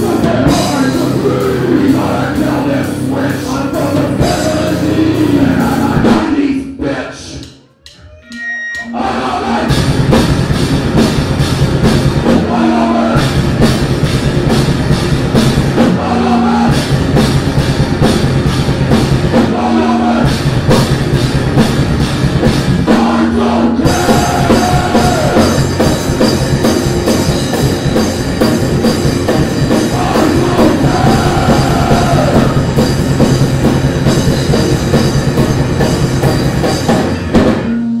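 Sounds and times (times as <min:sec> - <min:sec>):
heavy metal band playing live: 0:00.0 - 0:06.5, 0:08.8 - 0:38.0.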